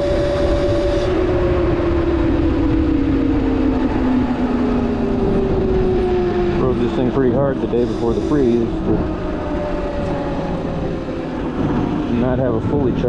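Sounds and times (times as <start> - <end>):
electric scooter motor whine: 0.0 - 12.2
heavy wind: 0.0 - 13.0
road noise: 0.0 - 13.0.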